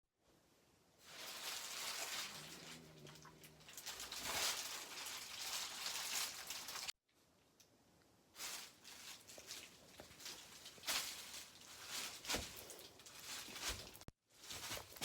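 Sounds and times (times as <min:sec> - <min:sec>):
bubble wrap crackling: 0:01.0 - 0:07.0, 0:08.4 - 0:15.0.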